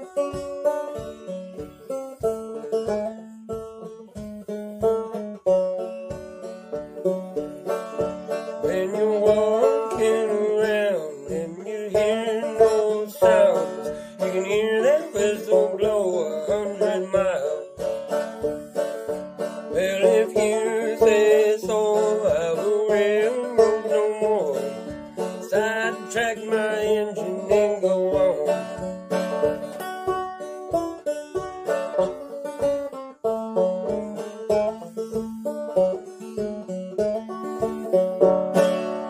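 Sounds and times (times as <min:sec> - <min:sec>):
banjo picked fast: 0:00.0 - 0:39.0.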